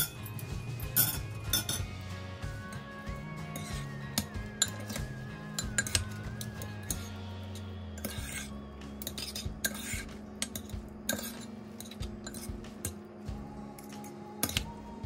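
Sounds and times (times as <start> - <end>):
utensils clinking in ceramic bowl: 0.0 - 2.0, 2.7 - 13.0, 13.8 - 14.7
background music: 0.0 - 15.0.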